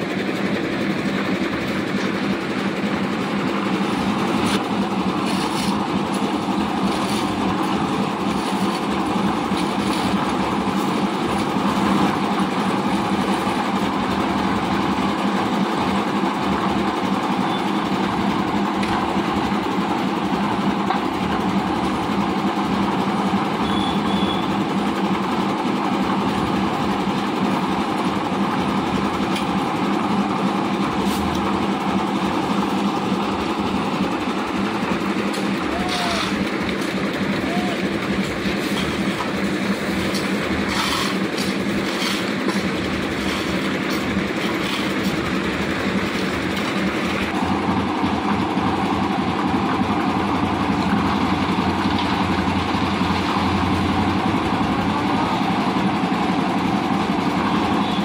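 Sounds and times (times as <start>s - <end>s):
concrete mixer droning: 0.0s - 58.0s.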